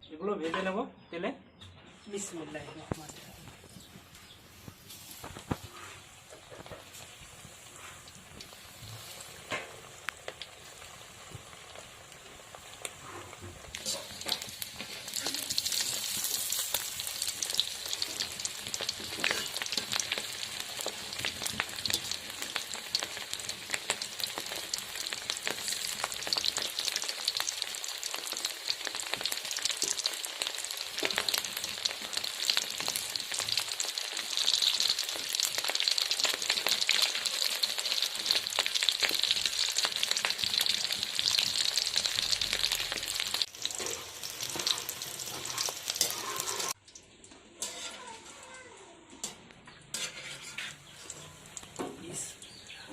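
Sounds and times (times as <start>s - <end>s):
food sizzling in hot oil: 3.0s - 48.2s, 50.0s - 52.7s.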